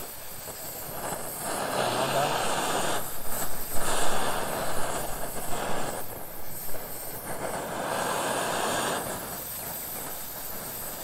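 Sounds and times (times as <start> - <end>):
gas burner hissing rumble: 0.0 - 11.0.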